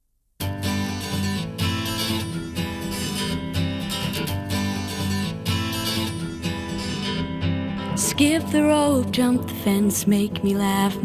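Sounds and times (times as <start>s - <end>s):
strummed acoustic guitar song: 0.4s - 11.0s.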